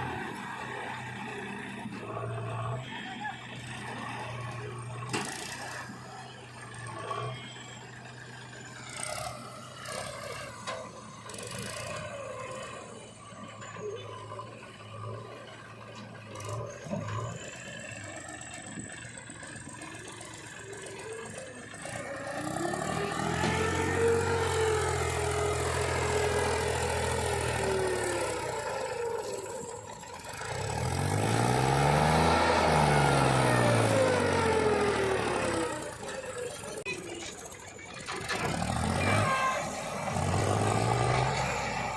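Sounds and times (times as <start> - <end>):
heavy machinery engine revving: 0.0 - 41.9.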